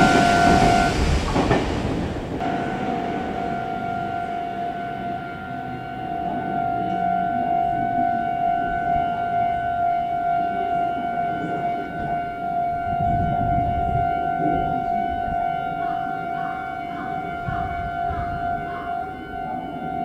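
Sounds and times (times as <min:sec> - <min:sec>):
railway warning alarm tone: 0:00.0 - 0:01.5, 0:02.3 - 0:20.0.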